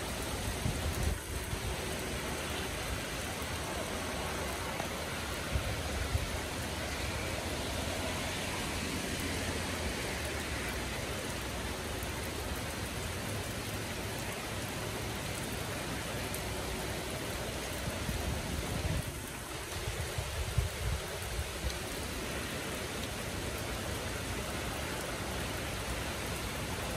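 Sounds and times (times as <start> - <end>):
rain falling on trees: 0.0 - 26.9.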